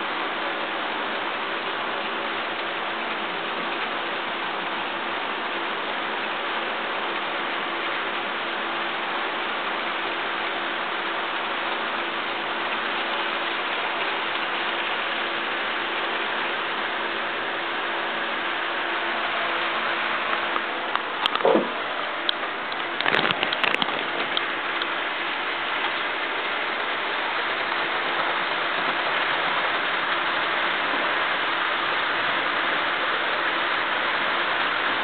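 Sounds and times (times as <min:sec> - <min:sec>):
faint hum: 0:00.0 - 0:35.0.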